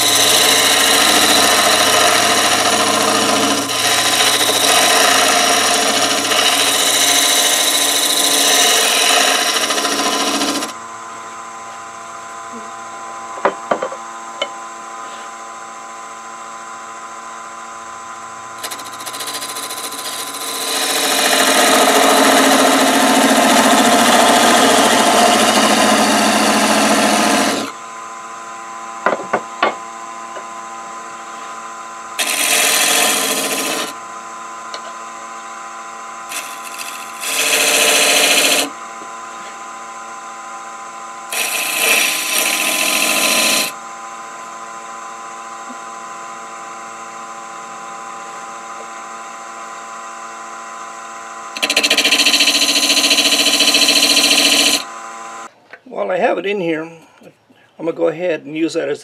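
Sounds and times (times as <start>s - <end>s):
chisel cutting spinning wood: 0.0s - 10.8s, 16.3s - 28.4s, 29.0s - 55.5s
wood lathe humming: 0.0s - 12.5s, 16.0s - 55.5s.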